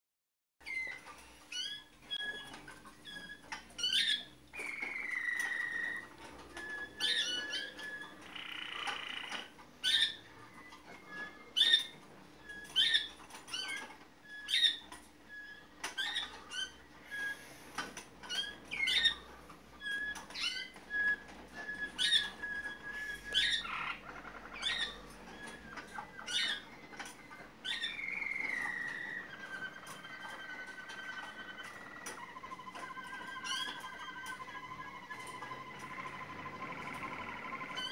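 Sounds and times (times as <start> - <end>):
canaries singing: 0.6 - 37.9.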